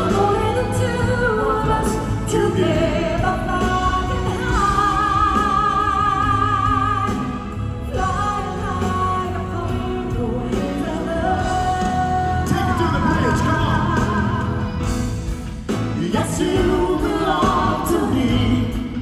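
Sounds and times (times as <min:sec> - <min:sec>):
man and woman singing duet: 0:00.0 - 0:15.1, 0:15.7 - 0:19.0
band accompaniment: 0:00.0 - 0:19.0.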